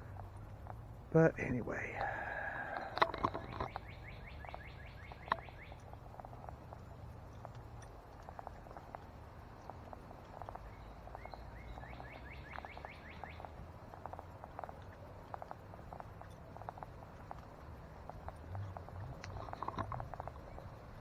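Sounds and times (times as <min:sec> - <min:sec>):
footsteps on woodland trail: 0:00.0 - 0:21.0
low outdoor rumble: 0:00.0 - 0:21.0
small bird singing: 0:00.0 - 0:21.0.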